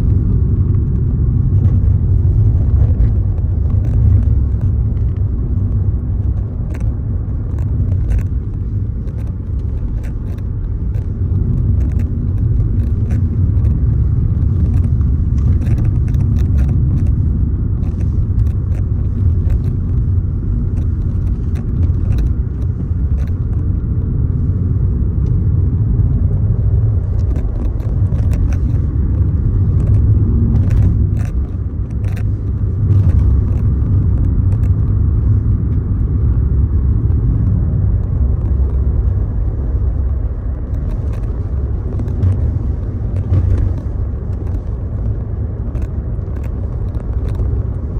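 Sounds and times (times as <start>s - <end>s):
loud low rumble: 0.0s - 47.9s.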